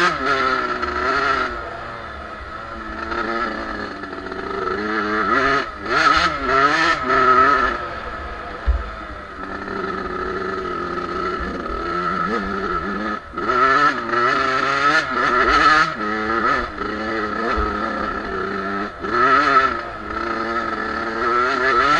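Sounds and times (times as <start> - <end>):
two-stroke motorbike engine revving: 0.0 - 21.9.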